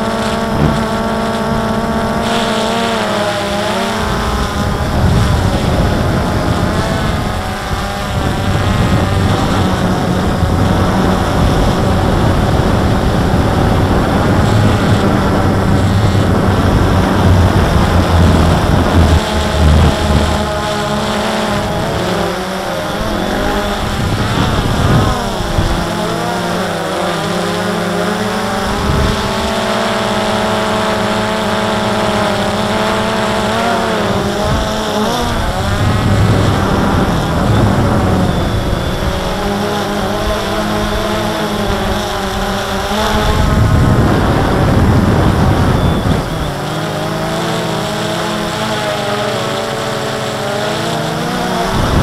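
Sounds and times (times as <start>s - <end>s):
drone propellers whining: 0.0s - 52.0s
wind rumbling on microphone: 0.0s - 52.0s.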